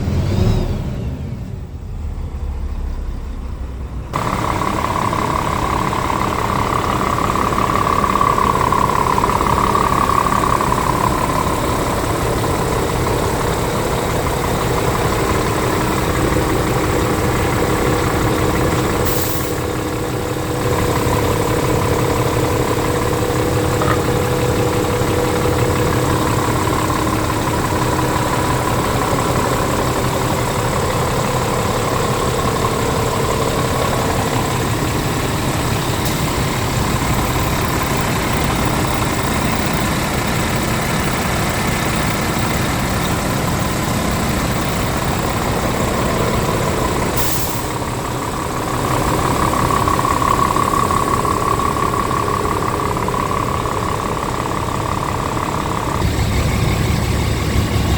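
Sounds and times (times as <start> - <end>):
diesel truck engine running: 0.0 - 57.9.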